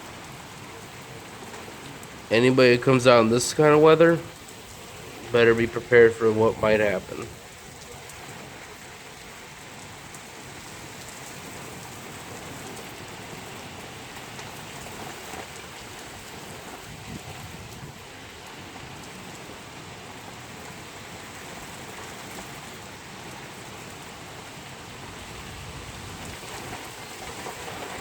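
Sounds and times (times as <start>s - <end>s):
heavy rain pattering: 0.0s - 28.0s.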